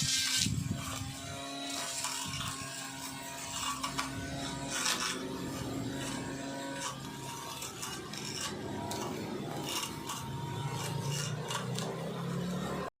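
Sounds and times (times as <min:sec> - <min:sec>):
lawn mower motor humming: 0:00.0 - 0:12.9
mower blade rasping through grass: 0:00.0 - 0:12.9.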